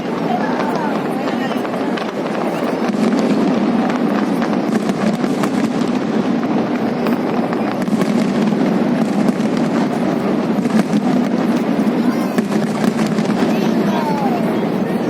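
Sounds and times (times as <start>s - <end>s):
fireworks popping and crackling: 0.0s - 15.0s.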